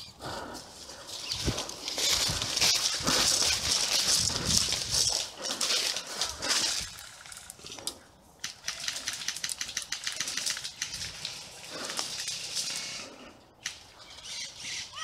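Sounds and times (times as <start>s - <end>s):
leaves and branches rustling: 0.0s - 15.0s.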